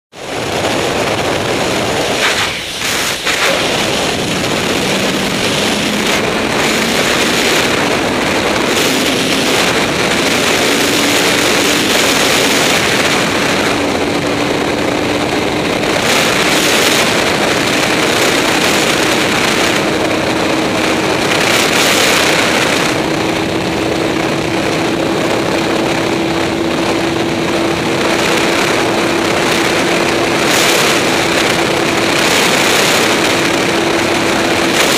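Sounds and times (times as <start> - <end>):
wind rushing over camera: 0.1 - 34.9
motorcycle engine pulling: 0.7 - 34.9.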